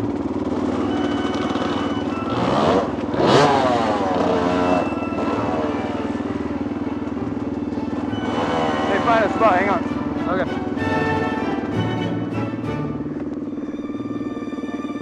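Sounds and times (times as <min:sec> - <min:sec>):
dirt bike engines idling and revving: 0:00.0 - 0:15.0.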